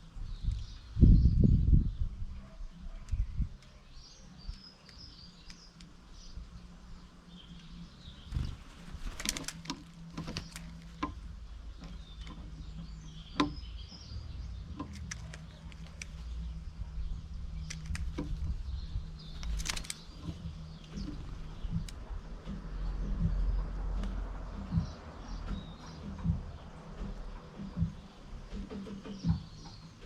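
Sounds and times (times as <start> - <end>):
birds chirping: 0.0 - 30.0
low hum: 0.0 - 30.0.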